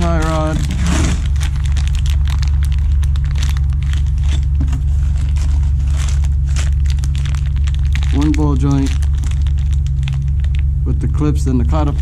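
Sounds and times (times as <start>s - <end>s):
plastic packaging crinkling: 0.0s - 10.7s
loud low hum: 0.0s - 12.0s.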